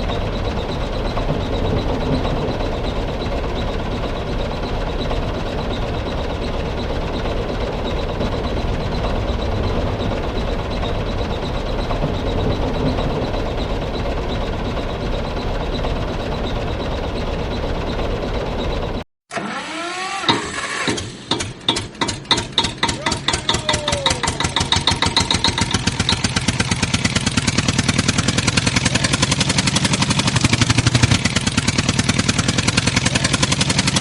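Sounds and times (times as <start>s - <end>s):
gears ticking: 0.0s - 19.0s, 21.3s - 34.0s.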